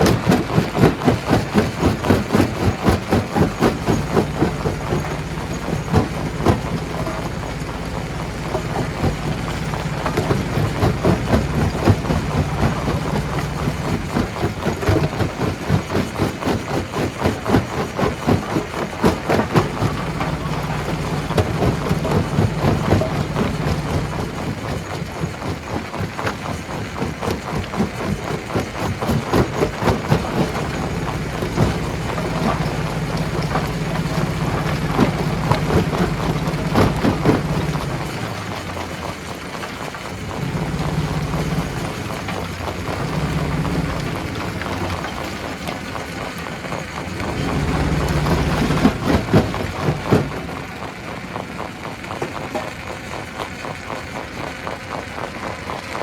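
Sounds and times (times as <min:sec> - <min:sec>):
rocks knocking and clattering: 0:00.0 - 0:54.2
stone crusher machine drone: 0:00.0 - 0:55.9.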